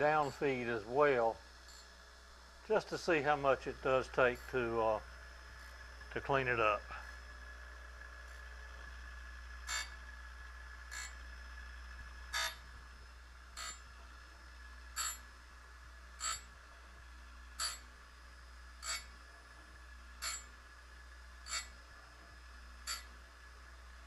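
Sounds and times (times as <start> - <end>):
surface grinder motor humming: 2.8 - 18.0, 18.8 - 20.7, 21.3 - 24.0.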